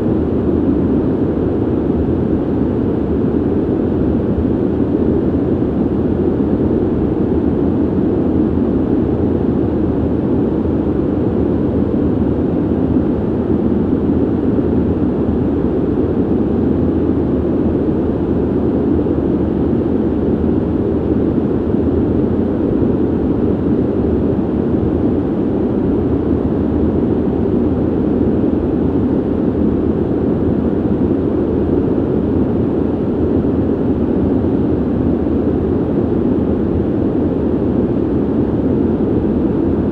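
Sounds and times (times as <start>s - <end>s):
ventilation air whoosh: 0.0s - 39.9s.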